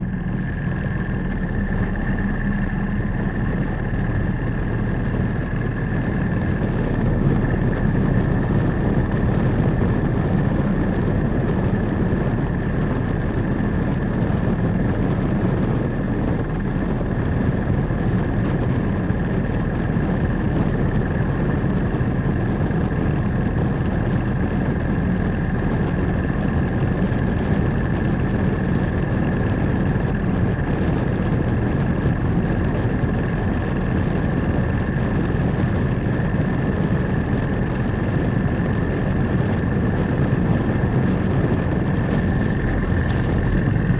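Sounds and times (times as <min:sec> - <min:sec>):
motorcycle engine rumble: 0:00.0 - 0:43.9
steady high whine: 0:00.0 - 0:43.9.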